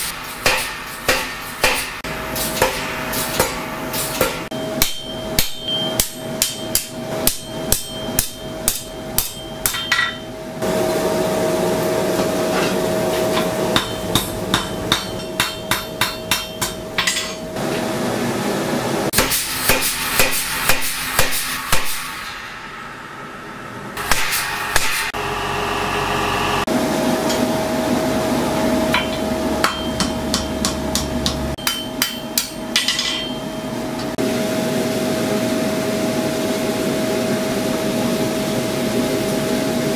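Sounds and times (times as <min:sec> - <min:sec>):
steady hum with held tone: 0:00.0 - 0:39.9.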